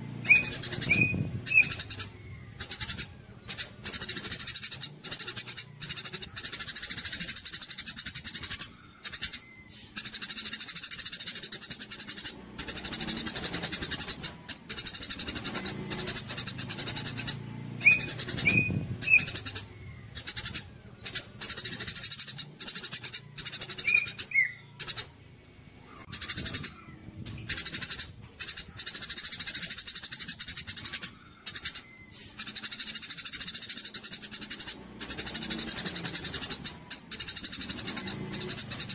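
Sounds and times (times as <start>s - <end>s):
low whistled bird notes: 0.0s - 38.9s
songbird chattering song: 0.0s - 38.9s.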